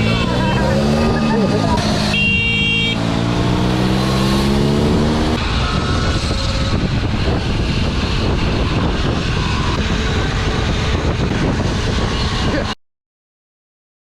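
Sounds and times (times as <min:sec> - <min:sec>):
vehicle motor accelerating: 0:00.0 - 0:02.1, 0:02.8 - 0:12.6
wind and road noise: 0:00.0 - 0:12.8.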